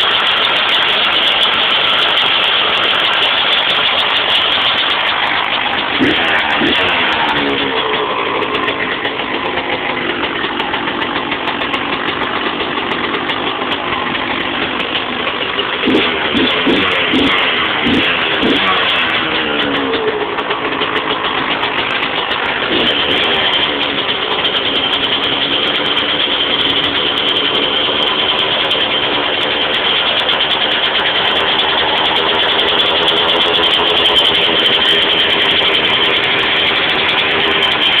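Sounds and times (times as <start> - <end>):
two-stroke engine running: 0.0 - 38.0.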